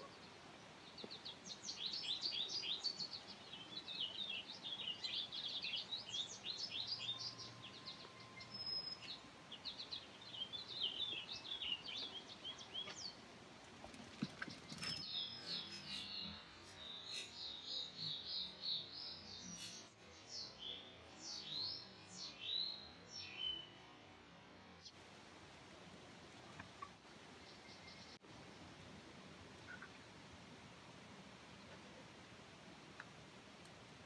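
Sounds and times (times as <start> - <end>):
songbirds chirping and singing: 0.0 - 25.0, 25.7 - 28.7.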